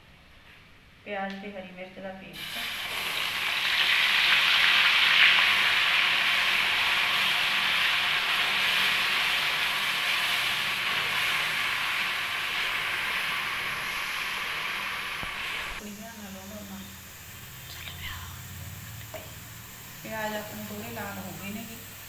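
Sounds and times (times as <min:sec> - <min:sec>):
paste sizzling in hot fat: 0:02.4 - 0:22.0.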